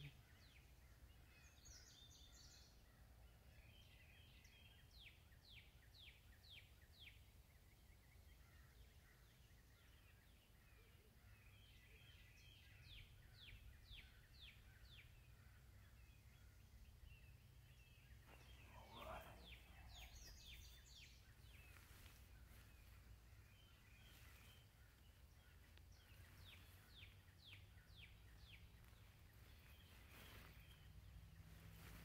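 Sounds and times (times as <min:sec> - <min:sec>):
bird singing: 0:00.0 - 0:32.0.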